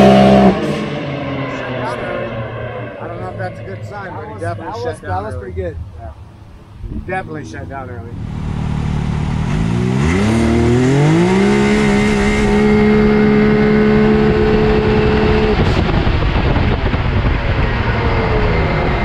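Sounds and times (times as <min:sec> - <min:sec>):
engine revving at full throttle: 0:00.0 - 0:05.5, 0:06.8 - 0:19.0.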